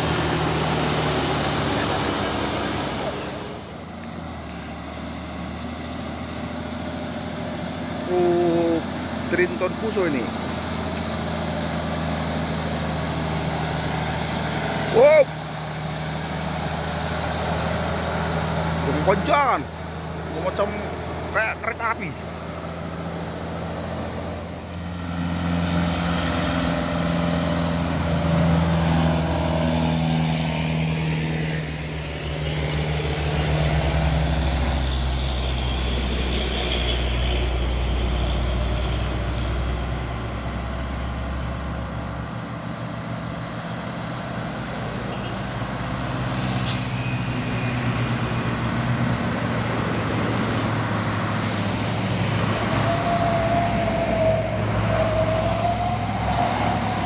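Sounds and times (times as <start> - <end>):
truck engine under heavy load: 0.0 - 57.0.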